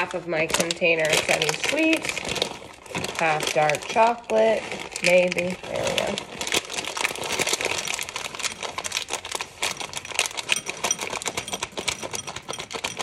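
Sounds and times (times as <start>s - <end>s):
chocolate chips pattering into glass bowl: 0.0s - 13.0s.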